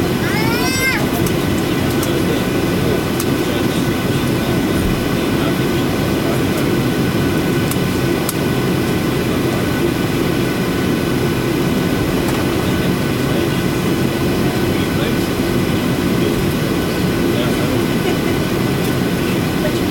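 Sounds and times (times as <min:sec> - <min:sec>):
jet engine rumble: 0:00.0 - 0:19.9.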